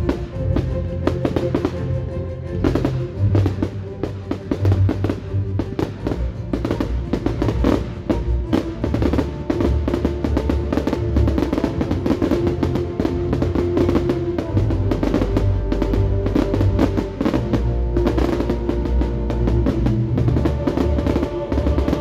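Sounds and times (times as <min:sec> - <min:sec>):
fireworks bangs and crackles: 0:00.0 - 0:02.0, 0:02.6 - 0:22.0
loud music with heavy drums: 0:02.6 - 0:22.0.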